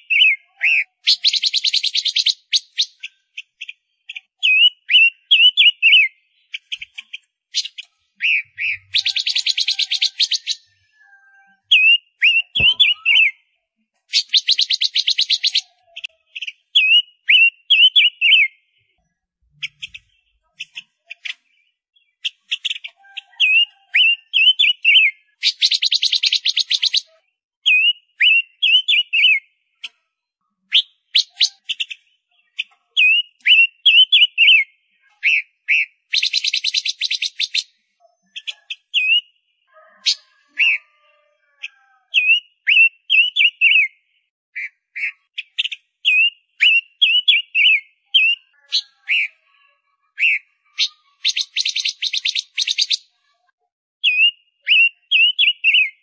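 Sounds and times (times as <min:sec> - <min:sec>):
finch chirping: 0:00.0 - 0:13.4, 0:14.1 - 0:18.9, 0:19.5 - 0:30.0, 0:30.7 - 0:34.7, 0:35.3 - 0:40.9, 0:41.6 - 0:43.9, 0:44.6 - 0:49.4, 0:50.2 - 0:53.2, 0:54.0 - 0:56.0.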